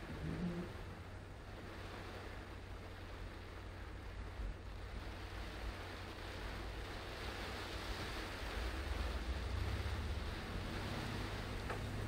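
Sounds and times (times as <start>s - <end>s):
car engine rumble: 0.0s - 12.0s
rain hissing: 0.0s - 12.0s.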